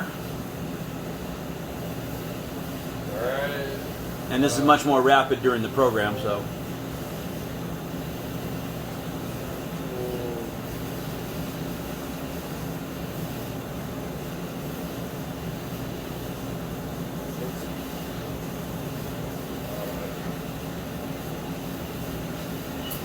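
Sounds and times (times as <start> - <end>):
machining center mechanical hum: 0.0 - 23.0.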